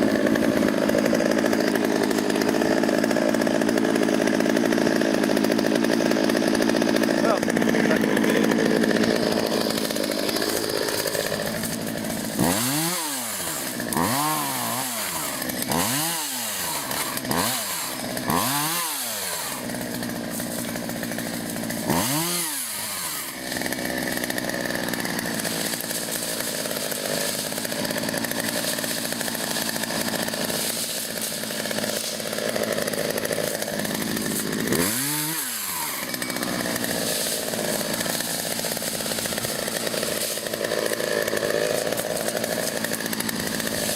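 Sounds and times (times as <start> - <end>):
chainsaw revving: 0.0 - 43.9.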